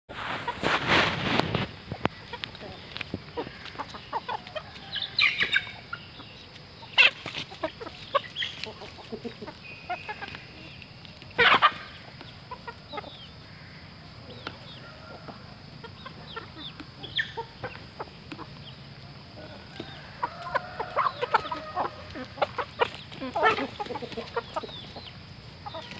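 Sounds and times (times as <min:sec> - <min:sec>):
chickens clucking: 0:00.1 - 0:25.9.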